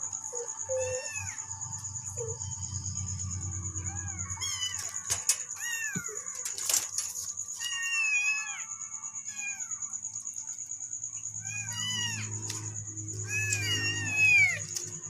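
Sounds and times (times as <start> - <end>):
low background hum: 0.0 - 15.0
kittens meowing: 0.3 - 2.5, 3.5 - 9.9, 11.4 - 15.0.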